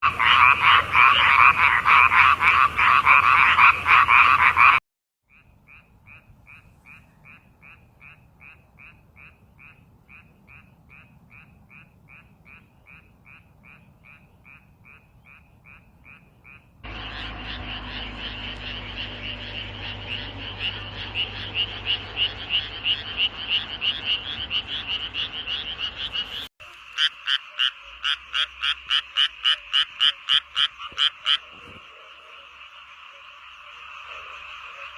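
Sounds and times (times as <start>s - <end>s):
frogs croaking: 0.0s - 34.9s.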